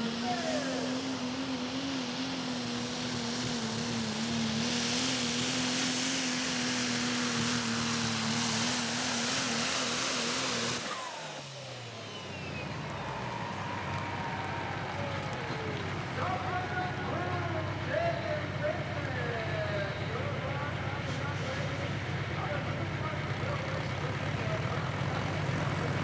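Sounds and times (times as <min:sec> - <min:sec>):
diesel engine at full throttle: 0:00.0 - 0:26.0.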